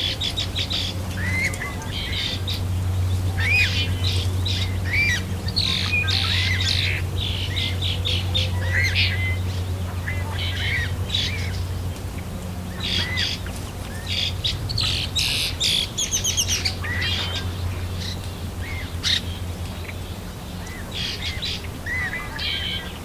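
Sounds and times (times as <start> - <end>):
birds squawking and chirping: 0.0 - 23.0
steady low hum: 0.0 - 23.0.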